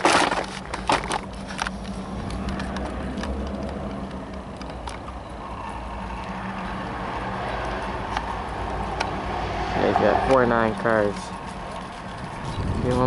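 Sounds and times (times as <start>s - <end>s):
diesel locomotive humming: 0.0s - 13.0s.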